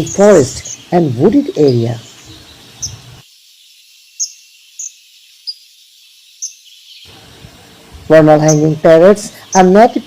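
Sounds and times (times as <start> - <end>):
faint steady high hiss: 0.0 - 10.0.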